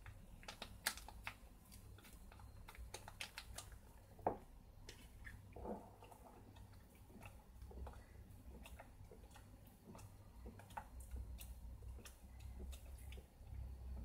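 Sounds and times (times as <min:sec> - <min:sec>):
hands mixing dough in bowl: 0:00.0 - 0:14.0.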